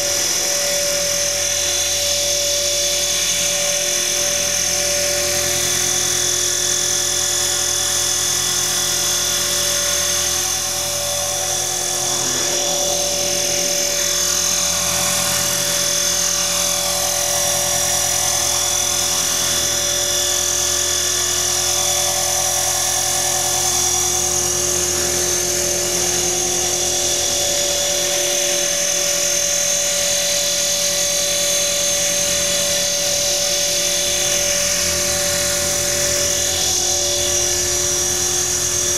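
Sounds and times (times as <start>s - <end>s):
rc helicopter hovering: 0.0s - 38.9s.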